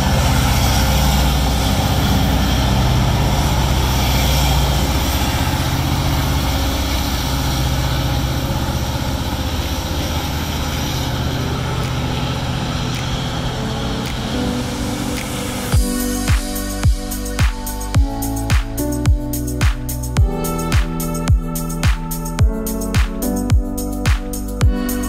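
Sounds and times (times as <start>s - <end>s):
freight cars rolling: 0.0s - 23.2s
diesel locomotive engine drone: 0.0s - 25.0s.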